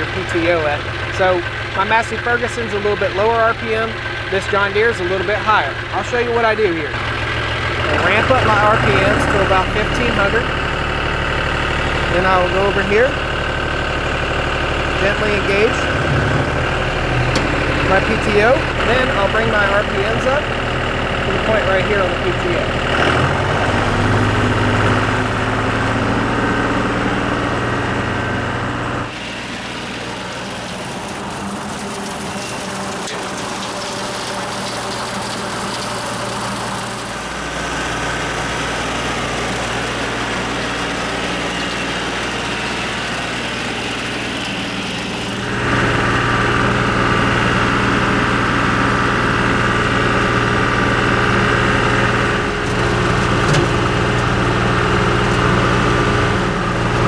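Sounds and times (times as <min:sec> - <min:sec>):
rotary cutter mowing: 0:00.0 - 0:57.0
tractor diesel engine running: 0:00.0 - 0:57.0.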